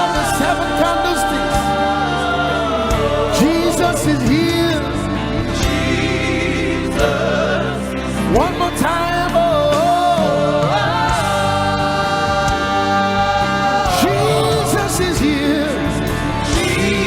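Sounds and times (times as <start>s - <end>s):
band playing gospel music: 0.0s - 17.0s.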